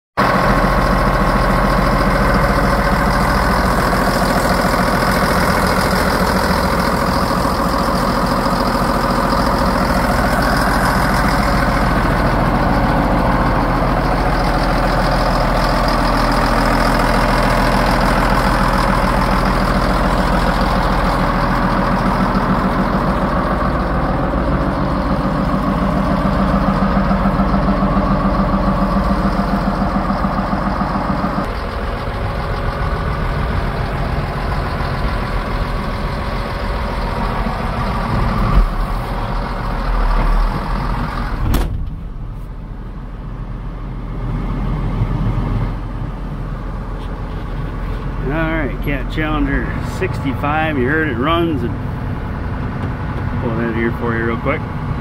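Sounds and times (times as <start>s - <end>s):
diesel engine idling: 0.2s - 55.0s.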